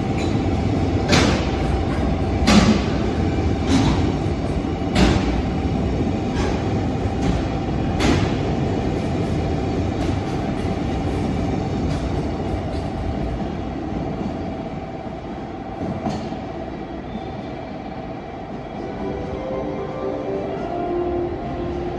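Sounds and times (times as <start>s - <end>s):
freight train rolling on rails: 0.0s - 21.9s.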